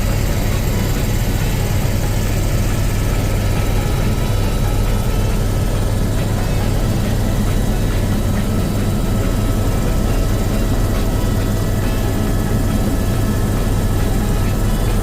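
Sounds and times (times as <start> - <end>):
helicopter drone: 0.0 - 15.0.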